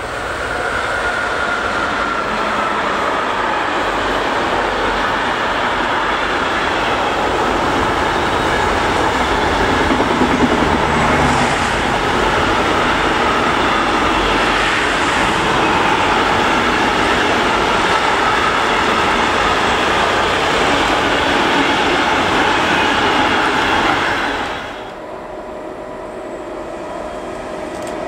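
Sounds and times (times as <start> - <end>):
steel wheels running on rails: 0.0 - 28.0.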